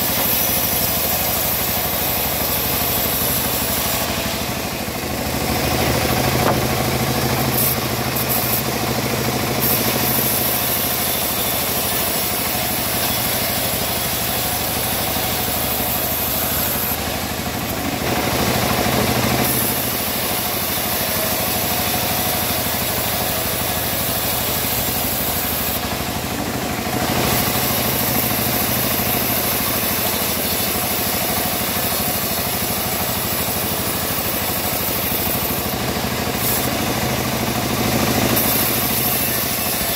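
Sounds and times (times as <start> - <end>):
machine humming: 0.0 - 39.9
saw blade rasping through wood: 0.0 - 39.9.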